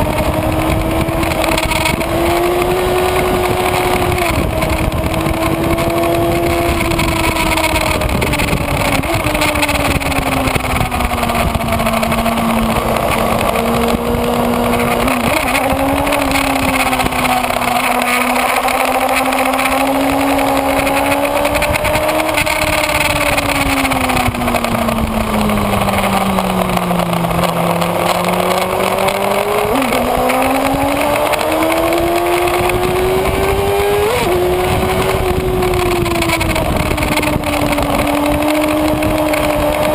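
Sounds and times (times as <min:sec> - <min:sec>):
motorcycle engine revving: 0:00.0 - 0:39.9
wind rushing: 0:00.0 - 0:39.9.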